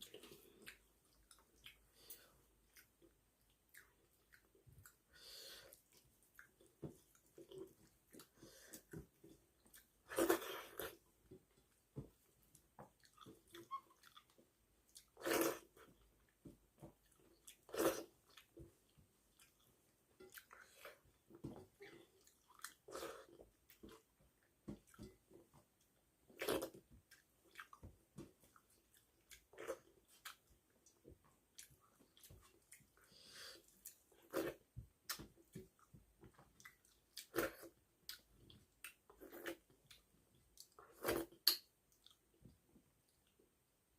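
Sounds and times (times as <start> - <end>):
person chewing food: 0.0 - 43.4.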